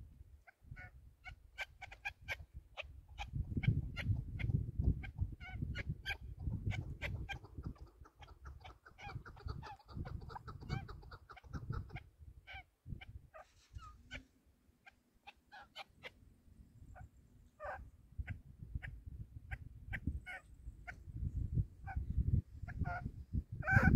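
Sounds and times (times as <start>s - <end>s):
wind rumble on microphone: 0.0s - 14.3s, 16.7s - 23.9s
partridge clucking calls: 0.4s - 16.2s, 17.0s - 21.0s, 21.8s - 23.9s.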